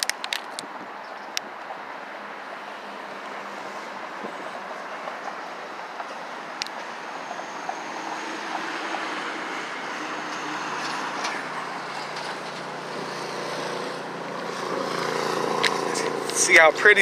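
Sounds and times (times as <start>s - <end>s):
road traffic rushing by: 0.0s - 17.0s.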